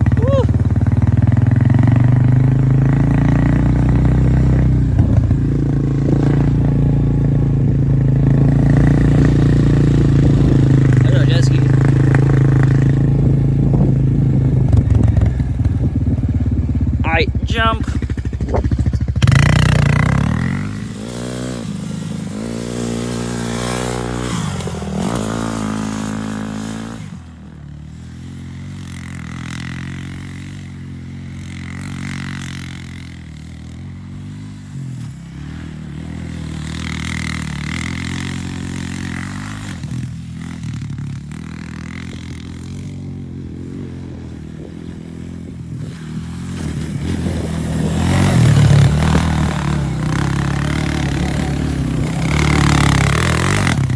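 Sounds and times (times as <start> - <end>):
motorbike engine revving: 0.0 - 53.9.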